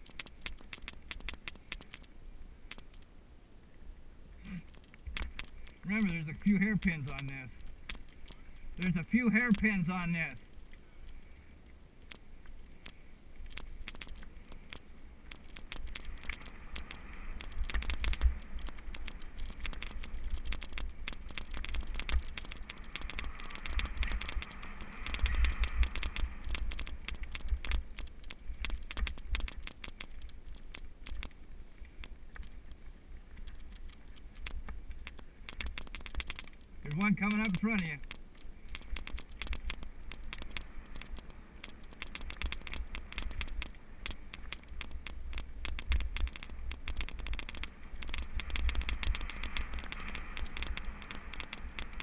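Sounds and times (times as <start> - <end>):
bike rattling and clicking: 0.0 - 2.1, 2.7 - 3.1, 4.5 - 52.0
wind rumbling on microphone: 4.4 - 52.0.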